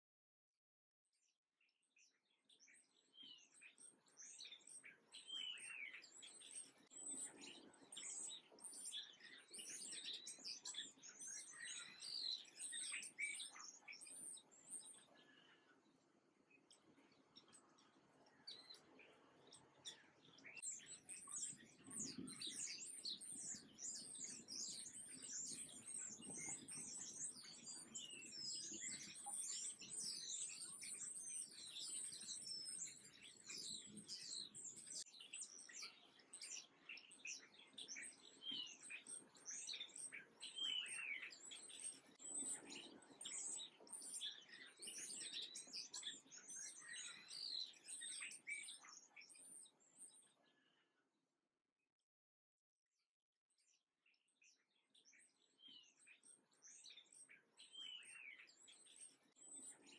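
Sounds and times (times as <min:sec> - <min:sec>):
songbirds chirping: 0:01.6 - 0:51.0, 0:53.6 - 0:59.9.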